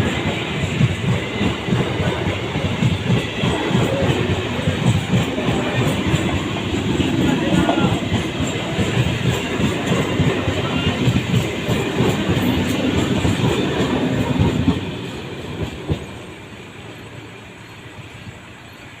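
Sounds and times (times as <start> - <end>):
train wheels clattering: 0.0 - 19.0.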